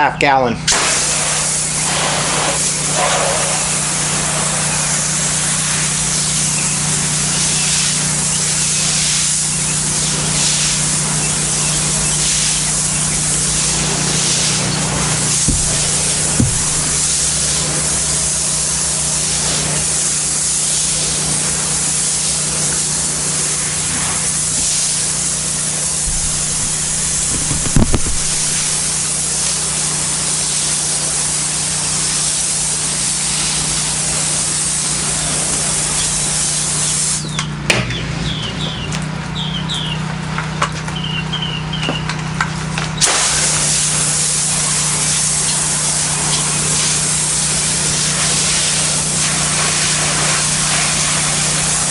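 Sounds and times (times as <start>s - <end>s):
pressure washer engine humming: 0.0s - 51.9s
water spray hissing on tile: 0.7s - 37.4s, 42.6s - 51.9s.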